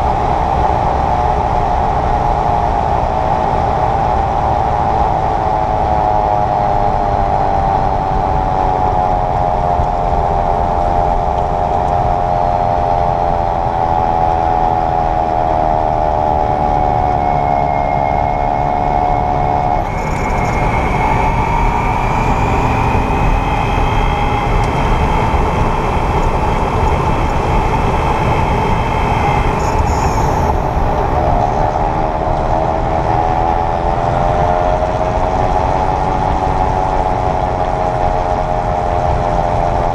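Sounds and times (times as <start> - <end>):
electric car drivetrain whirring: 0.0 - 39.9
road noise: 0.0 - 39.9.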